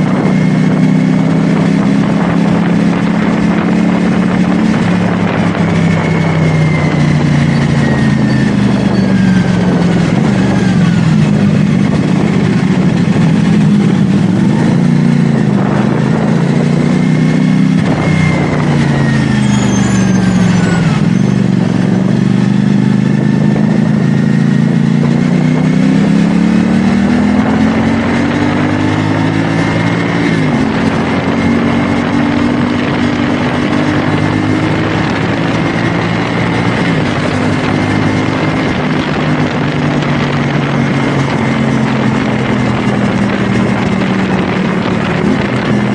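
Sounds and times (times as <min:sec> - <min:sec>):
motorcycle engine revving: 0:00.0 - 0:45.9
wind and road noise: 0:00.0 - 0:45.9.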